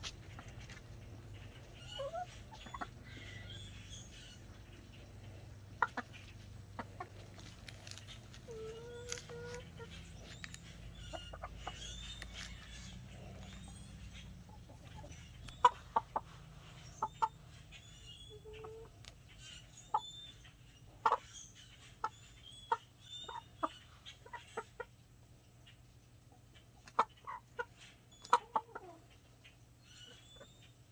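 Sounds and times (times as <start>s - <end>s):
chickens clucking: 0.0s - 30.9s
high chirping calls: 0.4s - 24.8s, 29.4s - 30.9s.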